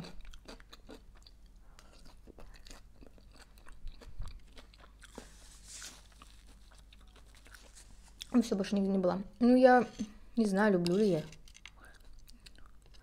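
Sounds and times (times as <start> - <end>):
person chewing salad leaves: 0.0 - 8.9, 11.3 - 13.0.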